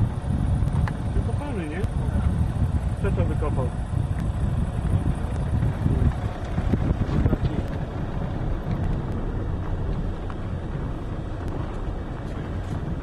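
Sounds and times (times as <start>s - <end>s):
car rumbling on rough road: 0.0s - 13.0s.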